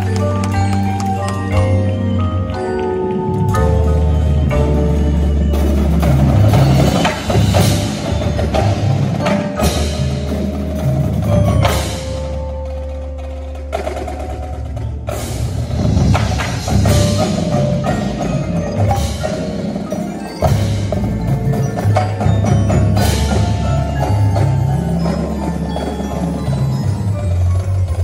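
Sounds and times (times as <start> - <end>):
accented percussion hits: 0.0 - 28.0
marimbas playing quick notes: 0.0 - 28.0.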